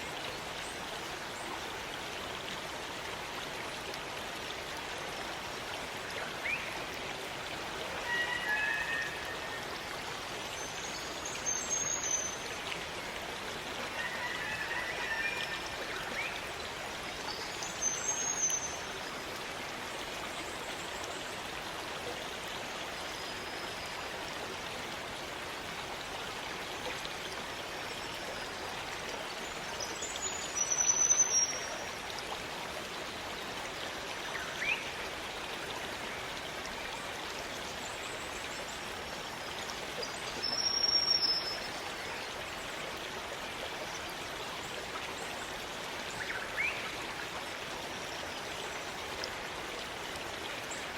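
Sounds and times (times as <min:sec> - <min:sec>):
stream rushing water: 0:00.0 - 0:50.9.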